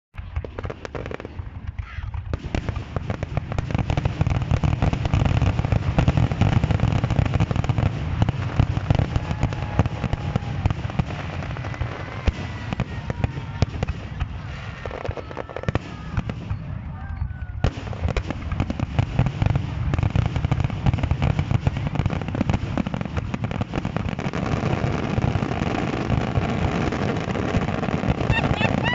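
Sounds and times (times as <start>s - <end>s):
fireworks bursting and crackling: 0.1s - 28.9s.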